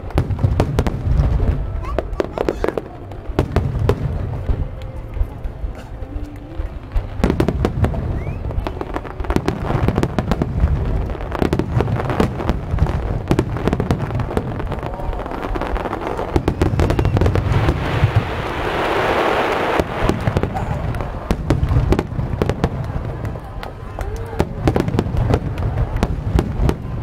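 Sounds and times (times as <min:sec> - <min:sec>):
fireworks booms and cracks: 0:00.0 - 0:27.0.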